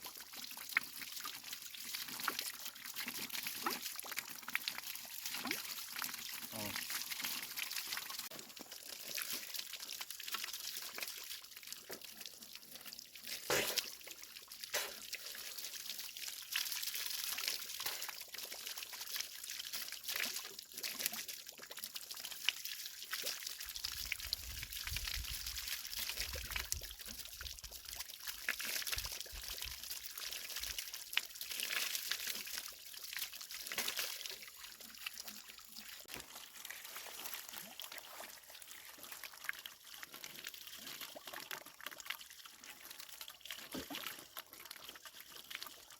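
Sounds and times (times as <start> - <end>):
water running and trickling: 0.0 - 45.9.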